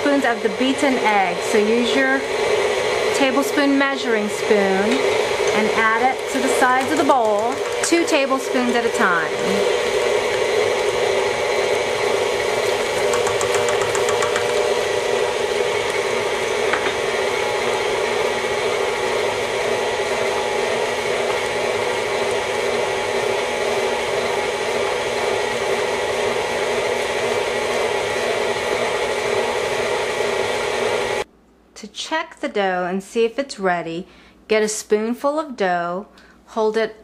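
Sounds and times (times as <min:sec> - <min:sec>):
stand mixer running: 0:00.0 - 0:31.2.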